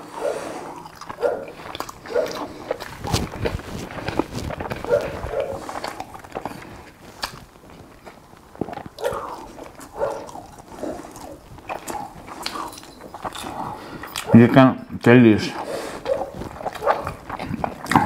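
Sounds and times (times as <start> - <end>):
wet chewing and lip smacking: 0.0 - 18.0.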